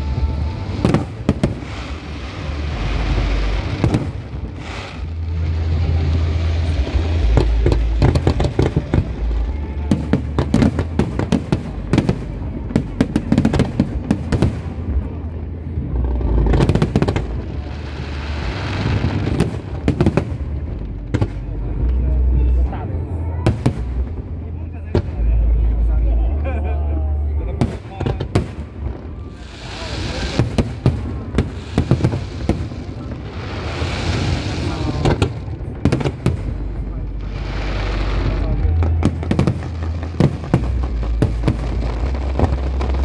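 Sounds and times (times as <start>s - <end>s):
fireworks sharp bangs: 0.0s - 5.4s, 6.4s - 15.2s, 16.3s - 21.5s, 27.6s - 43.0s
fireworks crackling: 0.0s - 22.7s, 23.5s - 25.6s, 27.5s - 43.0s.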